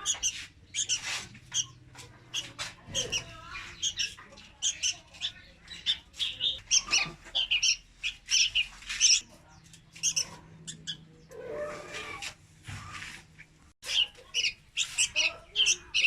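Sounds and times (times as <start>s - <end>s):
bird chirping rapidly: 0.0s - 11.3s, 13.8s - 16.0s.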